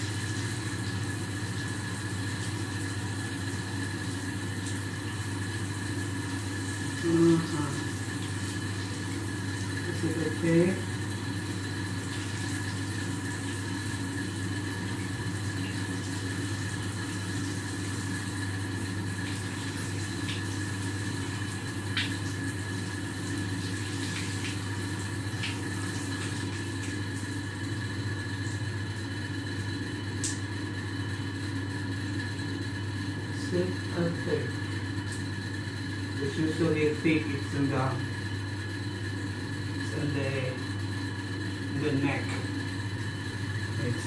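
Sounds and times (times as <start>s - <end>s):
steady machine hum: 0.0s - 44.0s.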